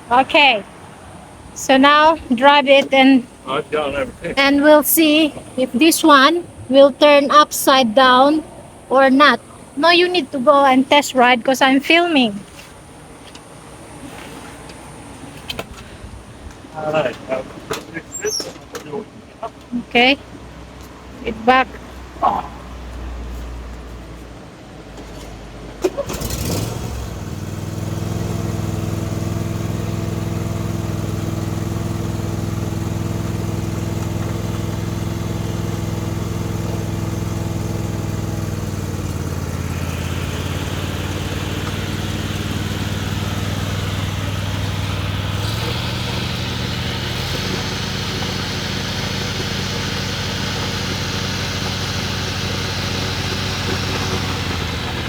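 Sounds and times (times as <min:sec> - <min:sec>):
riding mower engine running: 0:00.0 - 0:18.9, 0:24.4 - 0:55.0.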